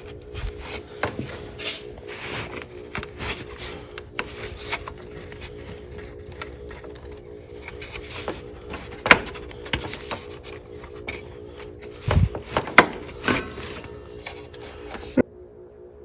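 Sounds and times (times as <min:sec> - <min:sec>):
low steady hum: 0:00.0 - 0:16.0
tools and metal parts clicking: 0:00.4 - 0:15.2.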